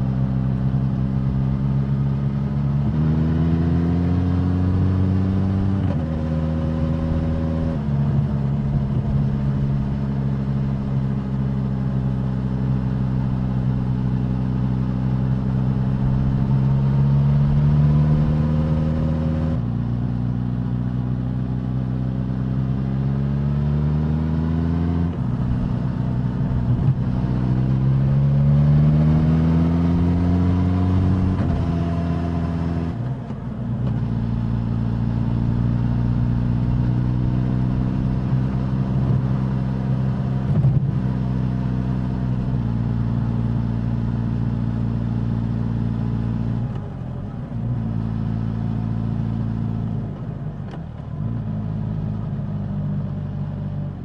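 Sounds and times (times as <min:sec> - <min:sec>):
motorcycle engine accelerating: 0:00.0 - 0:20.3, 0:21.8 - 0:53.5.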